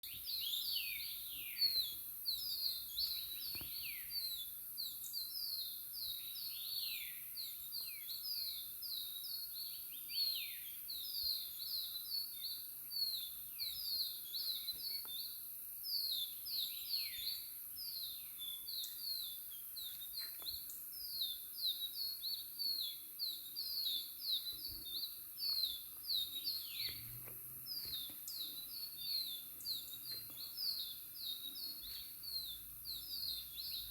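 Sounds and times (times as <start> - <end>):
bird chirping: 0.0 - 33.9.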